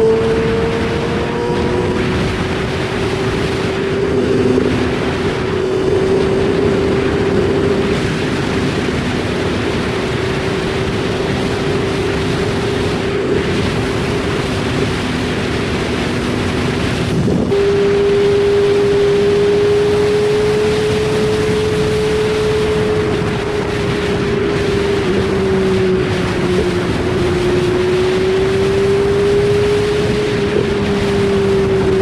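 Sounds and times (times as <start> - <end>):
motorcycle engine running: 0.0 - 32.0
wind noise on microphone: 0.0 - 32.0.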